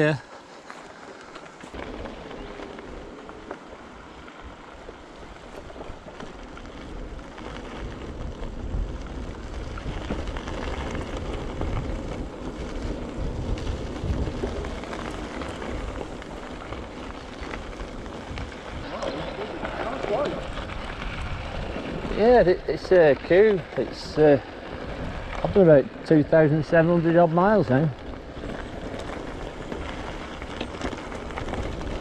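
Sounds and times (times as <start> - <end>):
bike tyres rolling on gravel: 0.0 - 32.0
wind rumble on microphone: 1.7 - 32.0.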